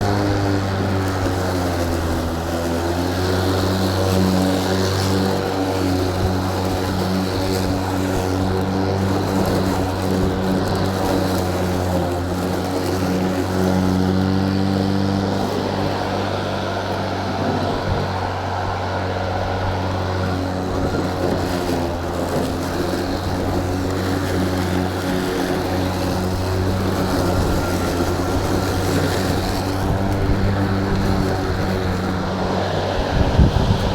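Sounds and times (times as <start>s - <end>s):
electric lawn mower whirring: 0.0s - 33.9s.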